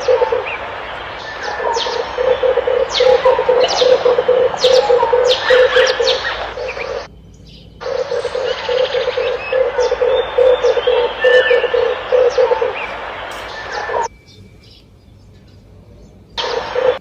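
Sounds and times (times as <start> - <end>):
dove cooing: 0.0 - 7.1, 7.8 - 14.1, 16.4 - 17.0
steady hiss: 0.0 - 7.1, 7.8 - 14.1, 16.4 - 17.0
small birds chirping: 0.0 - 17.0.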